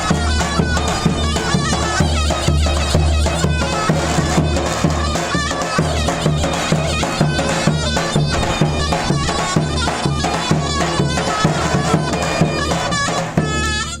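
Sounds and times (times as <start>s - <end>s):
bass drum beating: 0.0s - 14.0s
shrill reed wind instrument melody: 0.0s - 14.0s.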